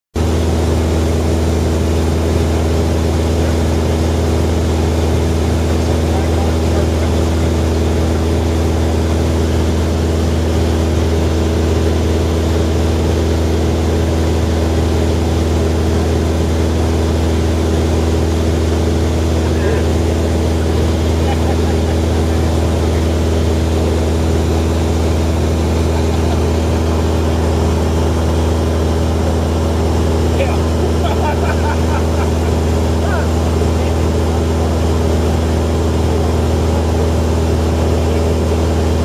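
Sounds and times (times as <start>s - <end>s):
plane engine droning in cabin: 0.2s - 39.0s.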